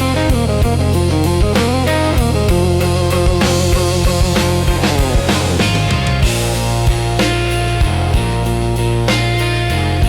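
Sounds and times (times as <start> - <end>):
bass: 0.0 - 10.0
drums: 0.0 - 10.0
slow blues electric guitar: 0.0 - 10.0.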